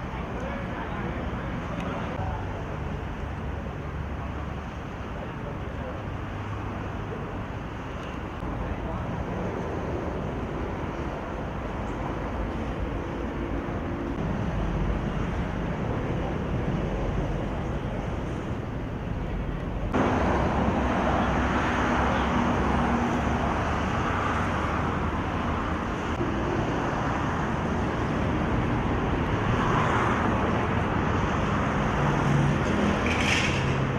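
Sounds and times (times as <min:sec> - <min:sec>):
road traffic noise: 0:00.0 - 0:33.9.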